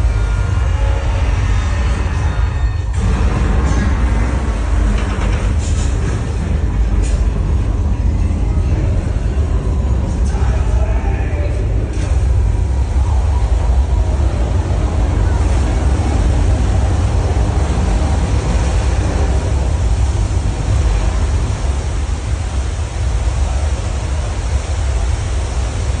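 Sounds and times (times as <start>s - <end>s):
deep rumble: 0.0s - 26.0s
rushing surf-like noise: 0.0s - 26.0s.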